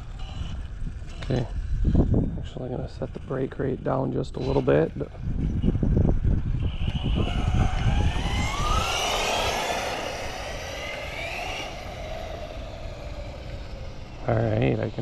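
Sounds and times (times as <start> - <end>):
electric motor whining: 0.0 - 15.0
low rumble: 0.0 - 15.0.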